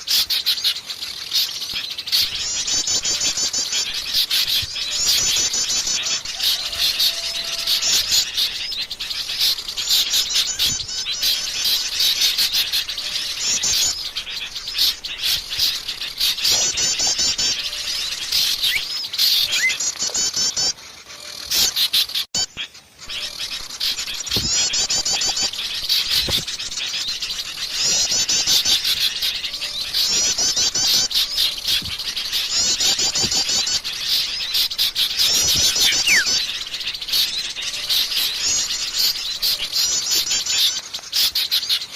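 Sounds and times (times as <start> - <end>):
bird chirps: 0.0 - 41.9
bird trilling song: 0.0 - 41.9.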